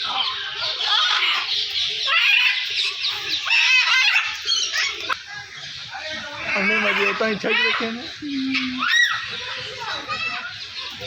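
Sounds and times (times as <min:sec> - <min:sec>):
birds calling and chirping: 0:00.0 - 0:11.0.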